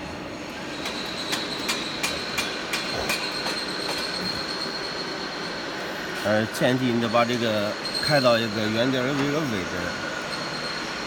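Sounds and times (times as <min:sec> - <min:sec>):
lathe high-pitched whine: 0:00.3 - 0:11.0.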